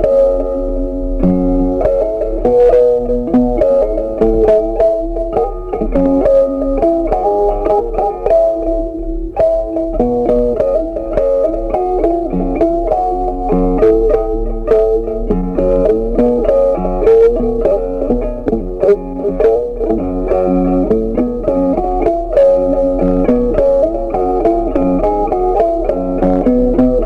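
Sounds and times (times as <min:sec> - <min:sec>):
plucked guitar melody: 0:00.0 - 0:27.0.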